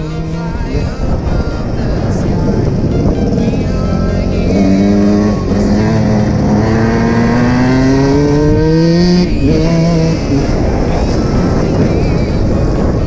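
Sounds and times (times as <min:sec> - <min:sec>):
dirt bike engine revving: 0:00.0 - 0:12.5.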